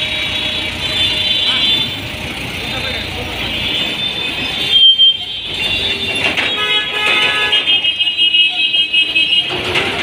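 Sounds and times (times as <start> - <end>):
vehicle horns tooting: 0.0 - 2.2, 3.4 - 10.0
road traffic noise: 0.0 - 10.0.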